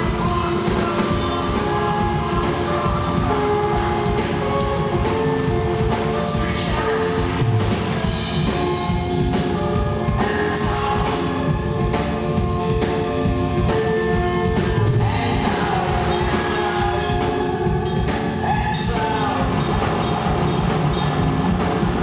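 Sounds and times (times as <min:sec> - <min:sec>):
drum kit and cymbals: 0:00.0 - 0:22.0
live band playing loud: 0:00.0 - 0:22.0.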